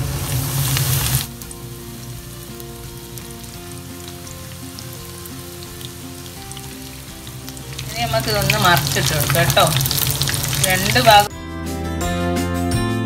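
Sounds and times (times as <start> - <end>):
oil sizzling and crackling: 0.0 - 11.3.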